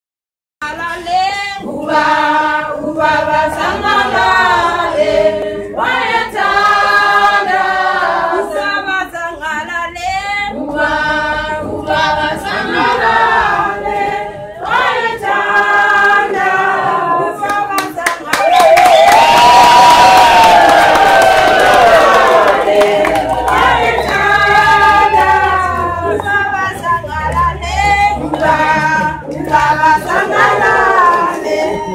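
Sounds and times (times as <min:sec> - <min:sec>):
women's choir singing a cappella: 0:00.6 - 0:31.9.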